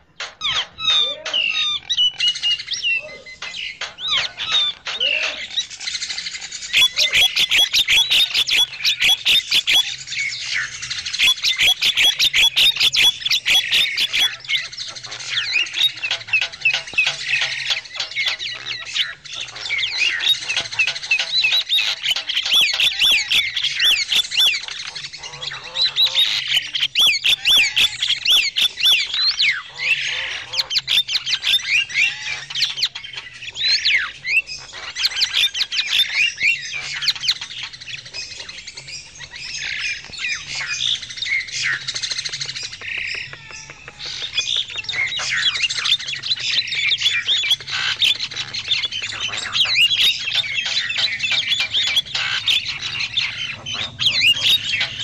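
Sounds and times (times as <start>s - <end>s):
mynas squawking and chattering: 0.0s - 55.0s.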